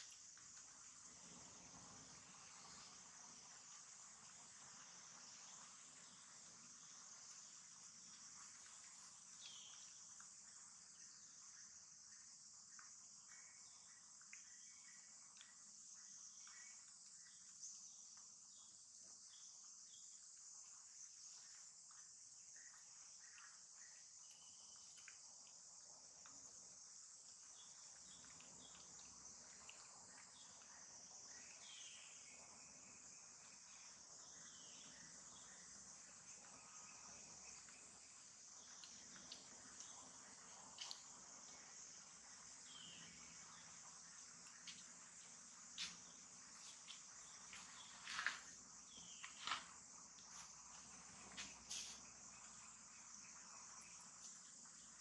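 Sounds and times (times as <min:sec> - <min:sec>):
faint insect chirps: 0:00.0 - 0:55.0
high-pitched insect chorus: 0:00.0 - 0:55.0.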